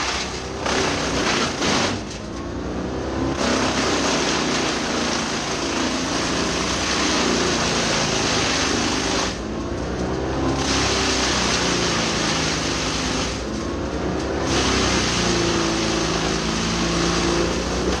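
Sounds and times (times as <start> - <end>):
tractor engine drone: 0.0 - 18.0
wood chipper rushing noise: 0.0 - 18.0.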